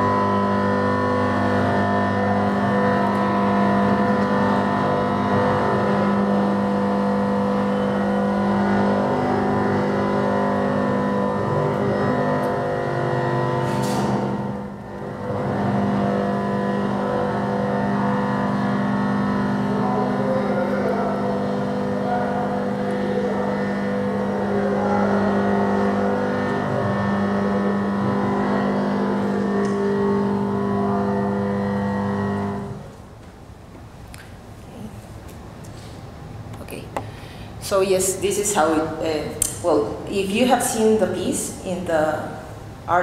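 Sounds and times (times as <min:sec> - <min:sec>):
dense electronic drone: 0:00.0 - 0:43.0.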